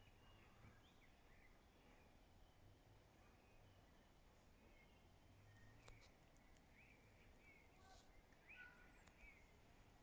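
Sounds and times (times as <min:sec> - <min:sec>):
faint high bird chirps: 0:00.0 - 0:09.6.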